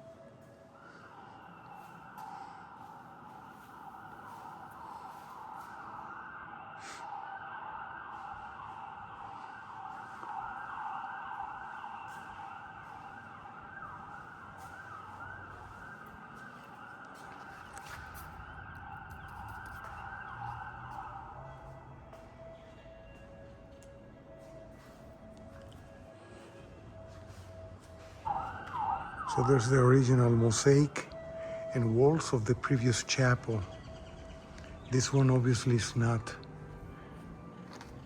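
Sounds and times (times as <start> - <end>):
emergency siren yelping: 0.0 - 38.0.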